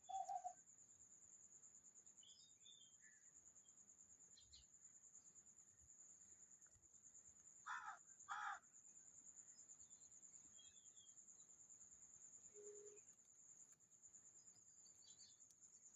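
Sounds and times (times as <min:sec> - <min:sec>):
high insect trill: 0:00.0 - 0:15.9.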